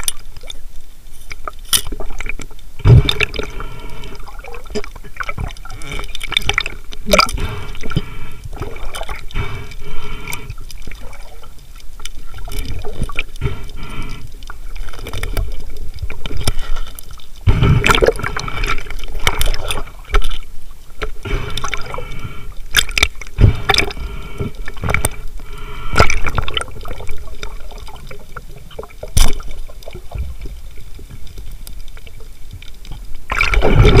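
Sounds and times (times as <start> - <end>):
water moving and bubbling: 0.0 - 34.0.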